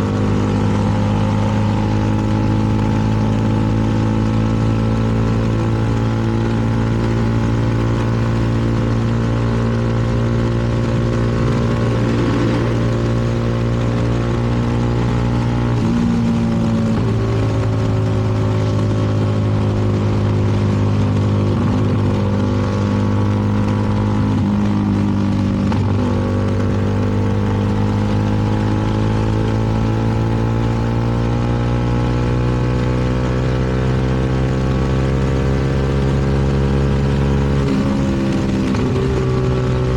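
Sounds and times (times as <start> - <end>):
wind noise: 0.0 - 32.4
motorcycle engine running: 0.0 - 39.9.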